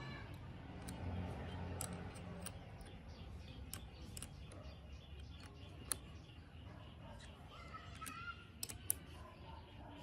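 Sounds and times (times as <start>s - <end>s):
small metal parts clicking: 0.0s - 6.6s, 7.6s - 9.3s.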